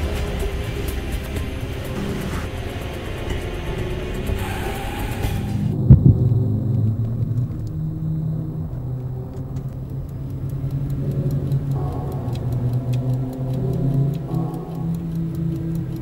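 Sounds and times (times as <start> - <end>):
low steady hum: 0.0 - 16.0
pocket watch ticking: 0.0 - 16.0.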